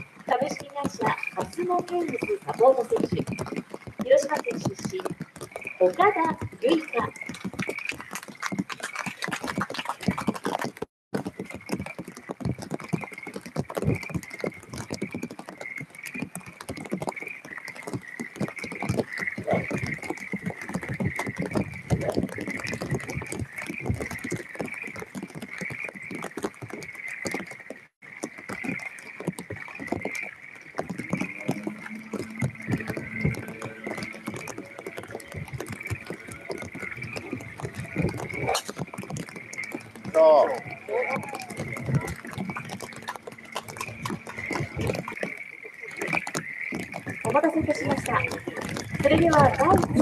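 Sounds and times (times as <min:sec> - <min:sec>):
frogs trilling: 0:00.0 - 0:10.6, 0:11.2 - 0:50.0
rain pattering: 0:00.0 - 0:50.0.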